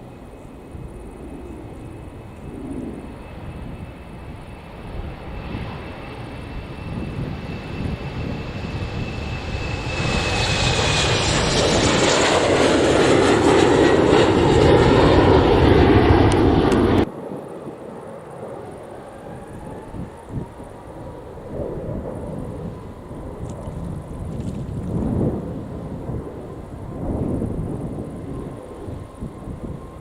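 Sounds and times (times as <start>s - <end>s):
faint high engine whine: 0.0s - 30.0s
jet engines roaring: 0.0s - 30.0s.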